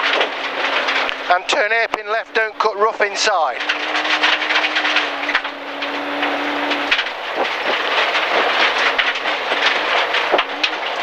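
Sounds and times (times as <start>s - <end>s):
gravel pinging against car underside: 0.0s - 11.0s
rally car engine revving: 0.0s - 11.0s.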